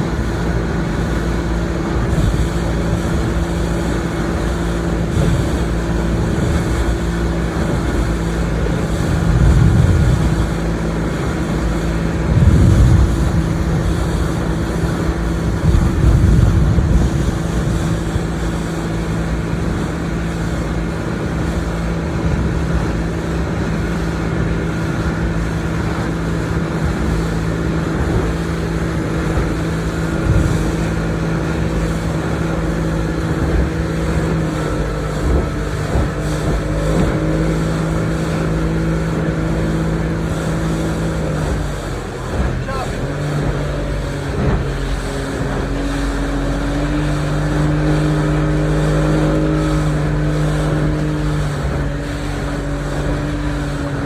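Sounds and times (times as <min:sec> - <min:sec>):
motorboat engine humming: 0:00.0 - 0:54.0
water noise: 0:00.0 - 0:54.0
wind noise: 0:00.0 - 0:54.0.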